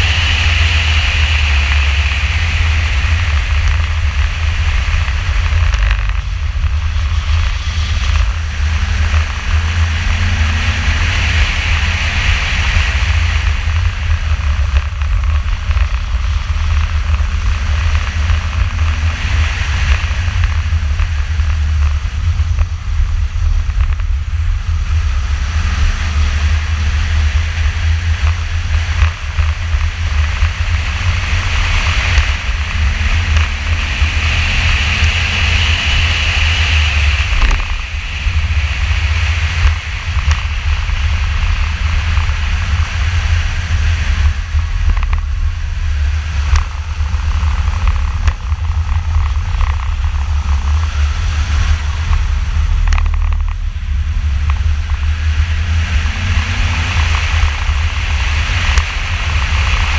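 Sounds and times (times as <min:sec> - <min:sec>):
car engine at part throttle: 0:00.0 - 0:59.9
wind and road noise rumble: 0:00.0 - 0:59.9.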